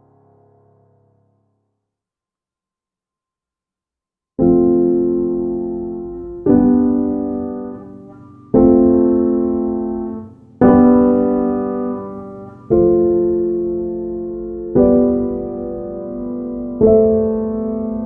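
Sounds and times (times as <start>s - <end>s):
slow piano chords: 0.0s - 1.4s, 4.4s - 18.0s.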